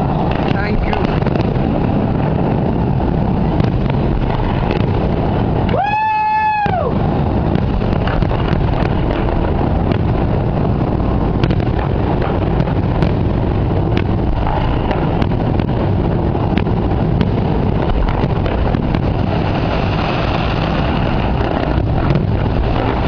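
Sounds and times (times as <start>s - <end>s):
loud rumble: 0.0s - 23.0s.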